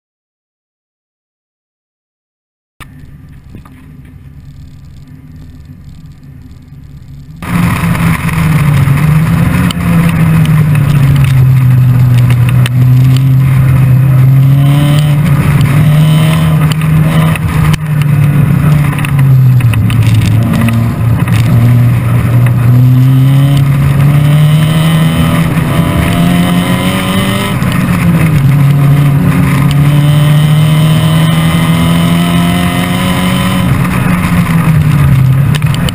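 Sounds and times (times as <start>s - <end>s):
road and wind noise: 2.8s - 35.9s
race car engine accelerating: 4.3s - 35.9s.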